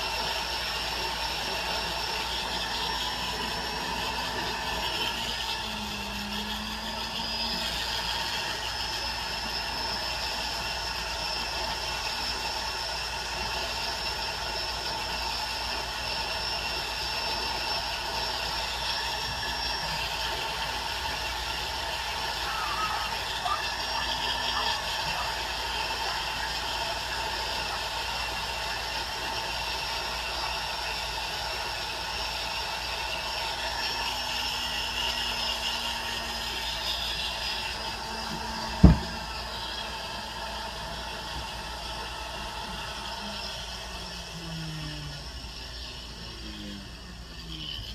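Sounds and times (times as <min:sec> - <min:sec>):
rotary tool whining on metal: 0:00.0 - 0:47.9.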